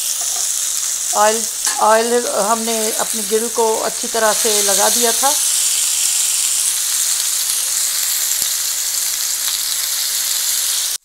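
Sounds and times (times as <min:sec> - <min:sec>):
chicken sizzling on a grill pan: 0:00.0 - 0:11.0.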